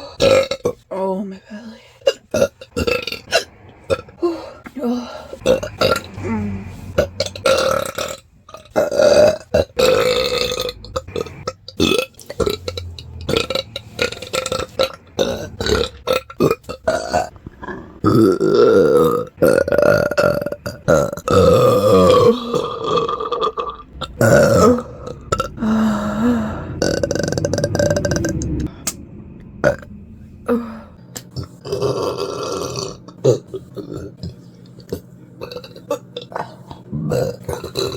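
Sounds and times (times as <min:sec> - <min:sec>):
person belching: 0:00.2 - 0:00.8, 0:02.3 - 0:04.3, 0:05.4 - 0:28.7, 0:30.5 - 0:37.9.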